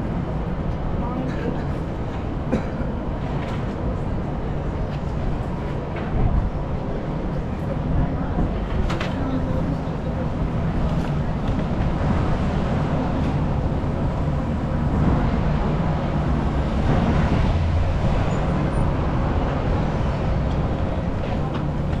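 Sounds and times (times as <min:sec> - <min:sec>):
city road traffic rumble: 0:00.0 - 0:22.0.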